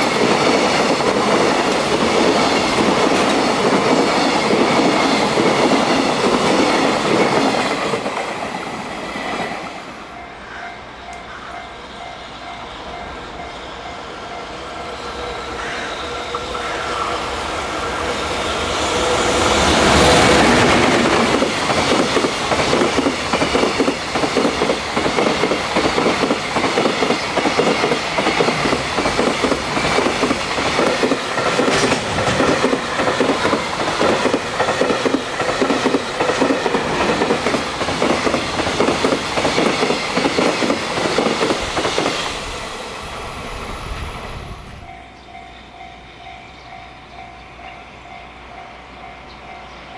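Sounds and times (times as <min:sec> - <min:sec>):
freight train passing: 0:00.0 - 0:49.9.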